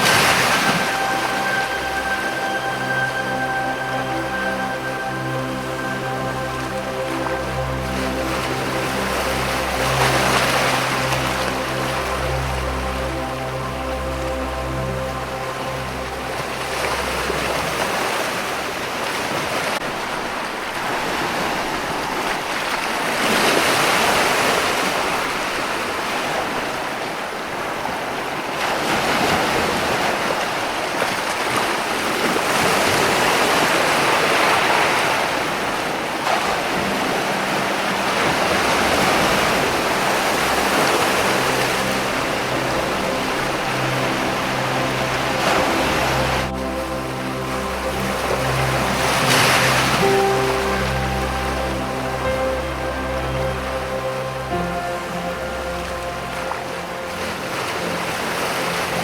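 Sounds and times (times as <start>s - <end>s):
ocean waves surging against rocks: 0.0s - 59.0s.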